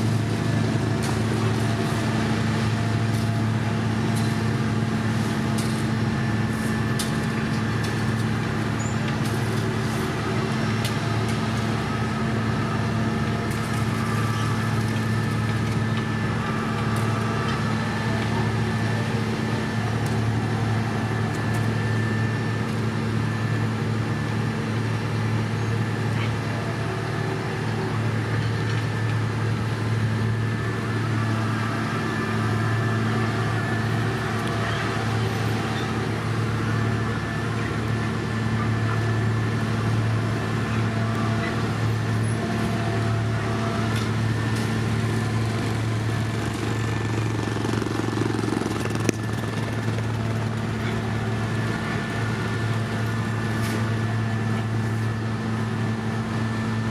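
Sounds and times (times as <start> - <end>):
diesel machinery engine hum: 0.0 - 56.9.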